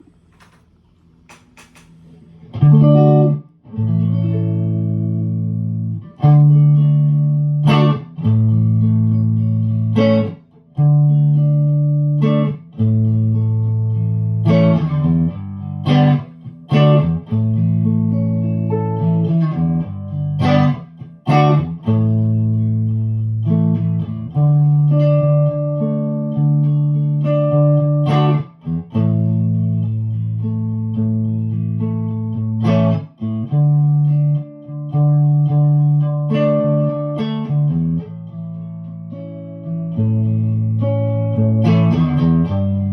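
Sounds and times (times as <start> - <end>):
electric guitar chords ringing: 2.3 - 42.9.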